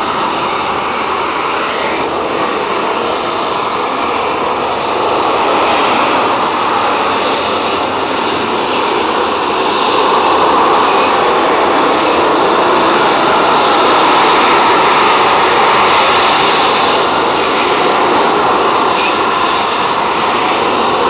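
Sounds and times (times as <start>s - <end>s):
jet flying low overhead: 0.0s - 21.0s.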